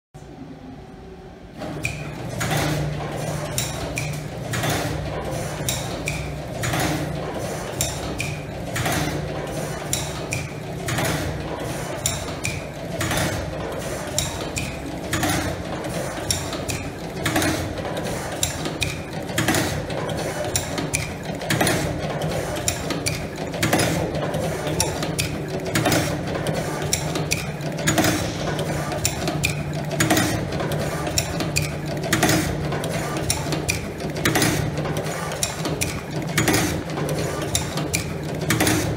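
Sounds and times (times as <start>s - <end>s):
machine hum: 0.2s - 38.9s
mechanical clacks and clicks: 1.6s - 38.9s.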